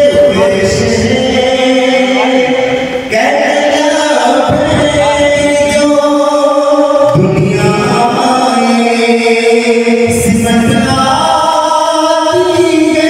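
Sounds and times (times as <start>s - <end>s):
man singing through loudspeakers: 0.0s - 13.0s.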